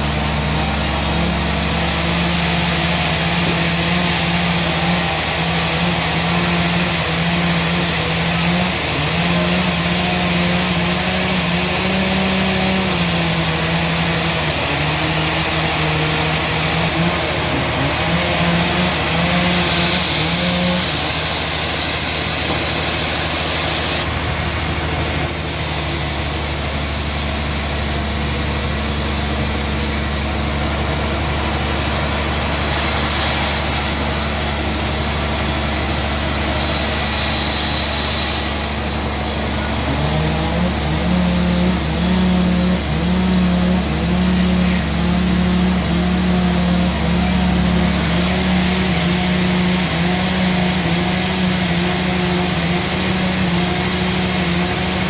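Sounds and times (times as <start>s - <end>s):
hiss: 0.0s - 24.3s, 25.1s - 55.0s
sawmill engine running: 0.0s - 55.0s.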